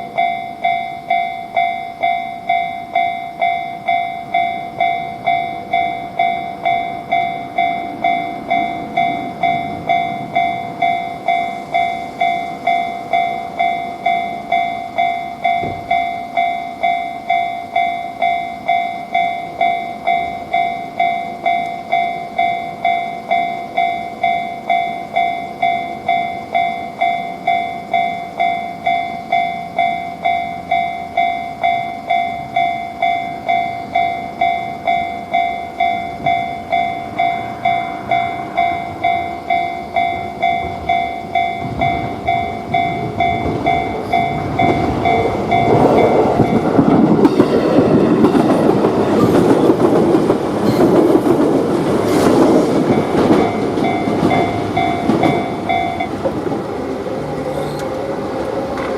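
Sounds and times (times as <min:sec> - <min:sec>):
level-crossing warning bell ringing: 0:00.0 - 0:58.9.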